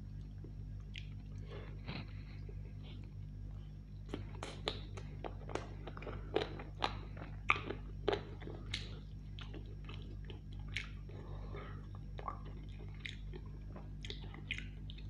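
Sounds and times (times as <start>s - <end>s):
person chewing chicken: 0.1s - 15.0s.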